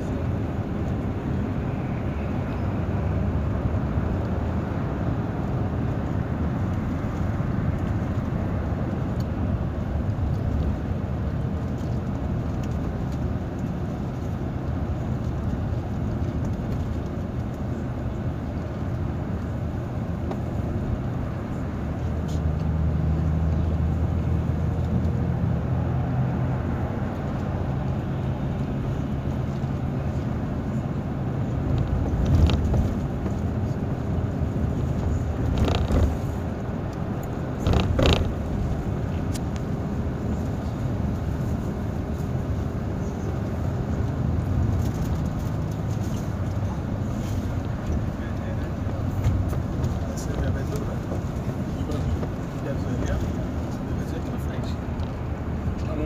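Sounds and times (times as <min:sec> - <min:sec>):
bus engine and tyres drone: 0:00.0 - 0:56.0.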